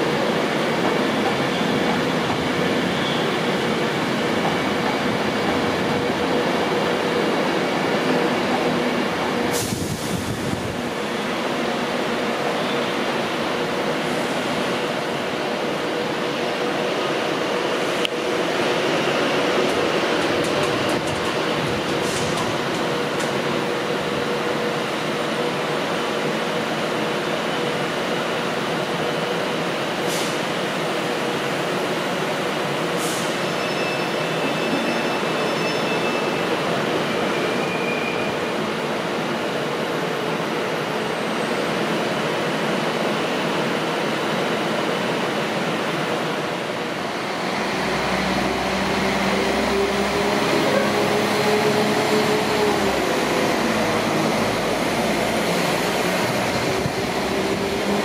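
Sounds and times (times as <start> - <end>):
train running: 0.0 - 58.0.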